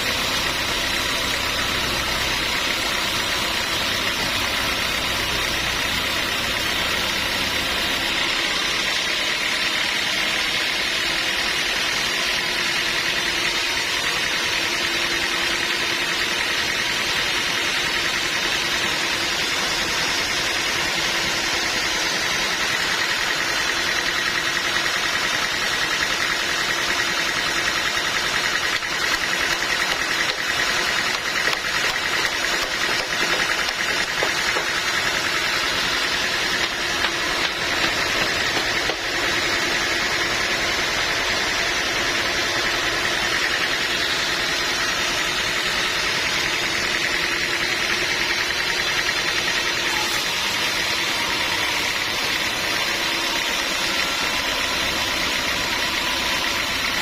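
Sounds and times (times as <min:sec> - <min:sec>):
sawmill machinery whine: 0:00.0 - 0:57.0.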